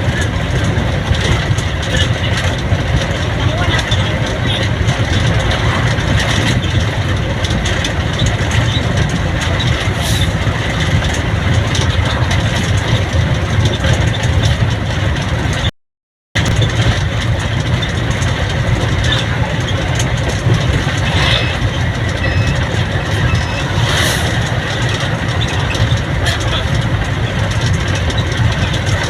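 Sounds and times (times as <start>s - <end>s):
road and wind noise: 0.0s - 15.7s, 16.4s - 29.0s
vehicle engine noise: 0.0s - 15.7s, 16.4s - 29.0s.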